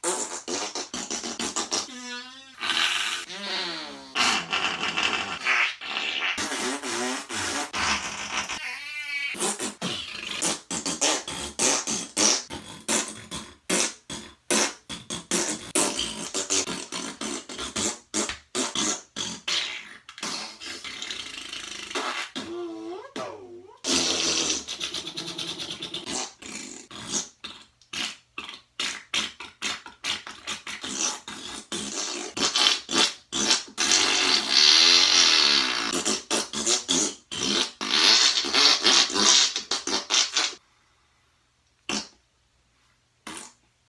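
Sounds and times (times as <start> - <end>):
imitation fart noises: 0.0 - 40.6, 41.9 - 42.2, 43.2 - 43.7.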